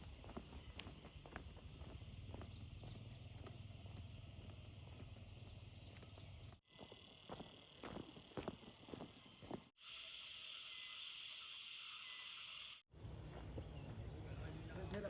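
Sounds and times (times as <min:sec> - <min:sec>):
insects droning: 0:00.0 - 0:14.6.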